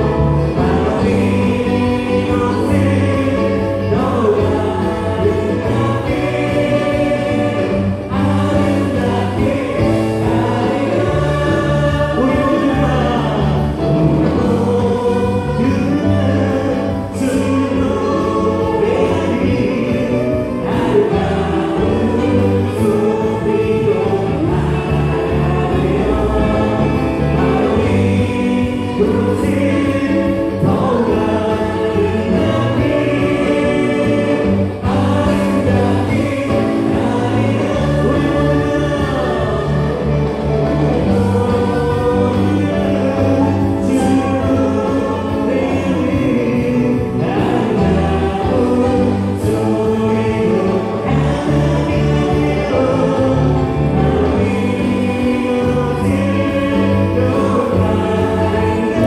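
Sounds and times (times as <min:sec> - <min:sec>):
drums: 0:00.0 - 0:59.0
electric bass guitar: 0:00.0 - 0:59.0
group of singers: 0:00.0 - 0:59.0
keyboard: 0:00.0 - 0:59.0.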